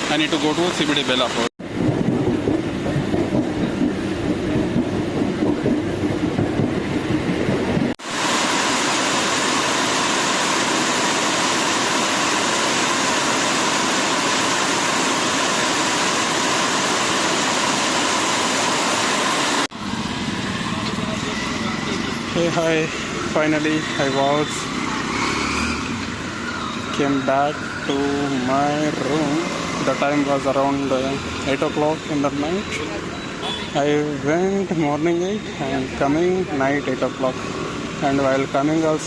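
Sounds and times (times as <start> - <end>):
train rumbling: 0.0 - 39.0
train rushing noise: 0.0 - 39.0.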